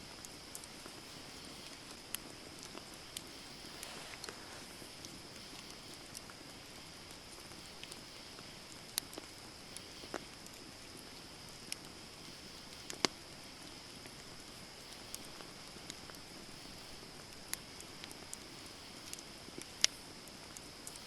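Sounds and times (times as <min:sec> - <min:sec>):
campfire crackling and popping: 0:00.1 - 0:21.0
fire hissing: 0:00.1 - 0:21.0.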